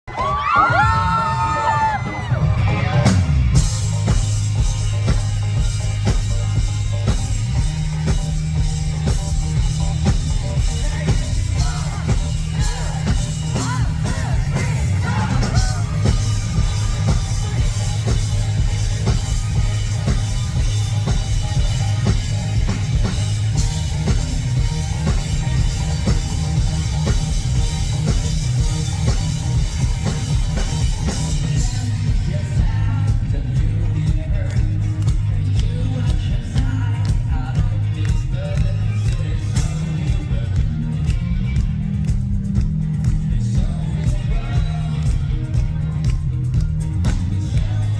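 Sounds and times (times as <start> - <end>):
rock band playing live: 0.1 - 47.9.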